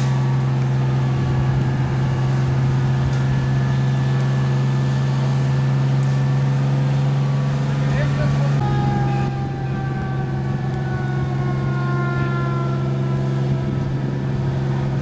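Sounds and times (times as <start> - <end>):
fire truck engine running: 0.0 - 15.0.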